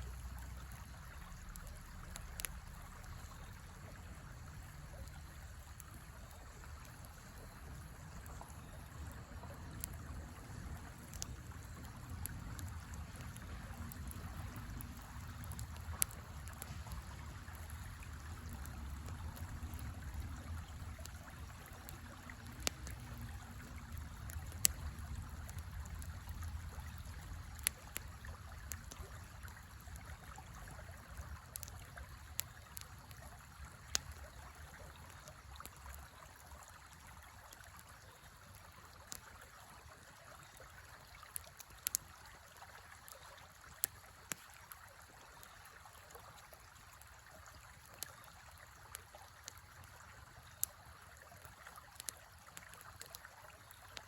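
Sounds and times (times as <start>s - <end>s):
campfire crackling and popping: 0.0s - 54.0s
river flowing: 0.0s - 54.0s.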